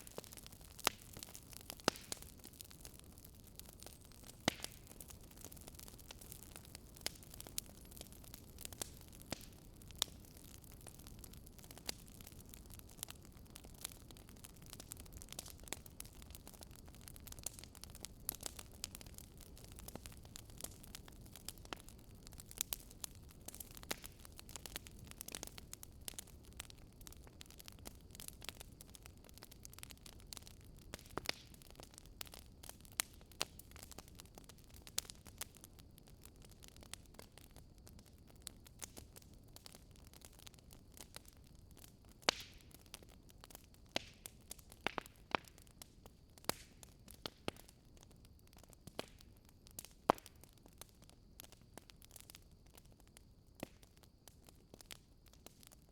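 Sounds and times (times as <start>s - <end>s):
logs crackling and popping: 0.0s - 55.9s
low rumble of flames: 0.0s - 55.9s.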